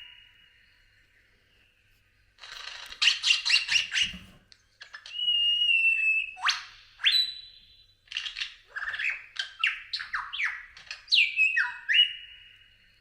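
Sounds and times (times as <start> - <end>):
bird whistling song: 0.0 - 1.7, 3.0 - 13.0.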